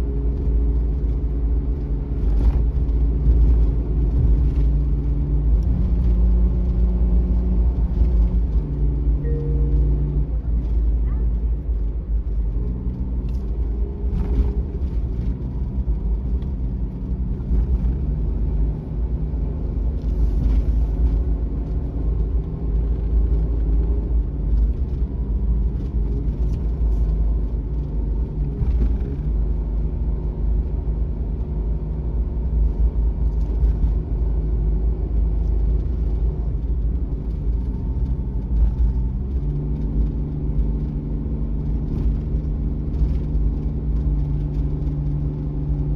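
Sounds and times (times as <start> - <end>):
road rumble: 0.0 - 45.9
van engine running: 0.0 - 45.9.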